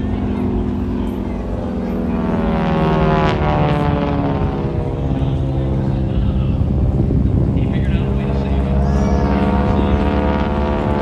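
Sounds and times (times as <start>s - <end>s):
propeller plane passing by: 0.0s - 11.0s.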